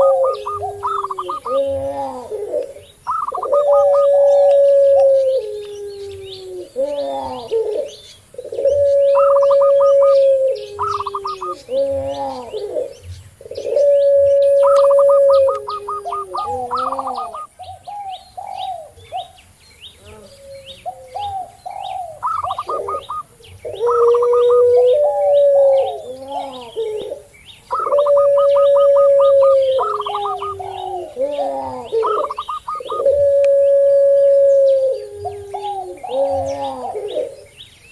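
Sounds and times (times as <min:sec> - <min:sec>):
dove short curving coos: 0:00.0 - 0:13.0, 0:13.6 - 0:17.5, 0:22.0 - 0:37.5
dove long level coos: 0:00.0 - 0:37.9
dove trilled coo phrases: 0:00.0 - 0:37.9
small birds chirping: 0:00.0 - 0:37.9.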